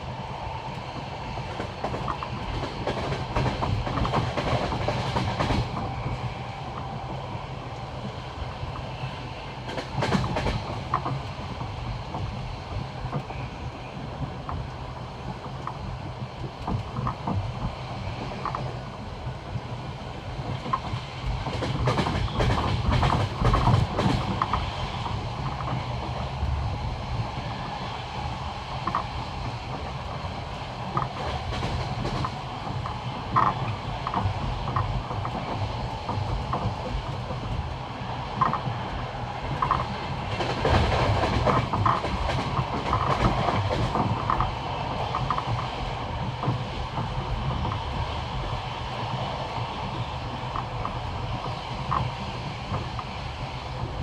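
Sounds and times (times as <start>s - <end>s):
running train rumble: 0.0s - 54.0s
train wheels clacking over joints: 0.7s - 7.3s, 9.6s - 18.8s, 19.4s - 54.0s.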